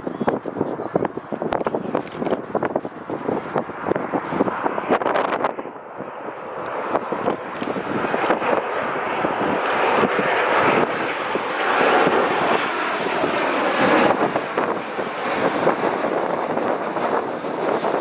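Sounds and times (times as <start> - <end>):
aircraft engines roaring: 0.0 - 18.0.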